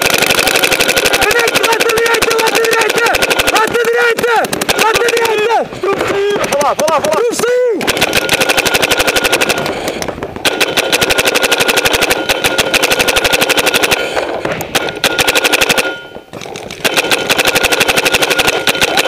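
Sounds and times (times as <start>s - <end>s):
paintball marker firing rapidly: 0.0s - 19.0s.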